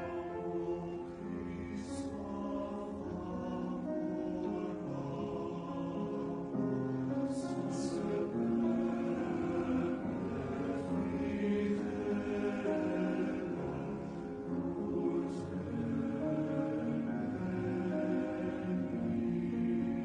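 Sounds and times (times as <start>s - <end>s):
men's chorus singing: 0.0s - 20.0s.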